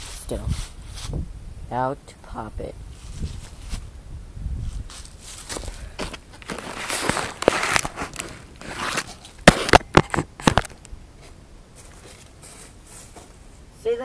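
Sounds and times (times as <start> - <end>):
rustling and crunching handling noise: 0.0 - 1.3, 2.8 - 4.0, 4.6 - 13.6.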